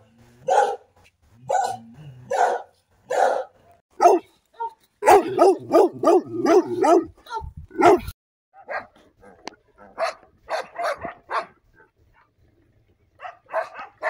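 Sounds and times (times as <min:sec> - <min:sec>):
dogs barking fiercely: 0:00.4 - 0:04.3, 0:05.0 - 0:12.3, 0:13.2 - 0:14.0.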